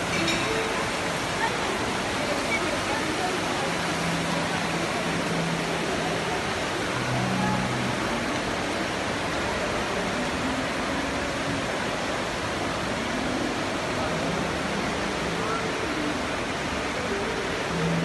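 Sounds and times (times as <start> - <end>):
indistinct nearby talk: 0.0 - 18.0.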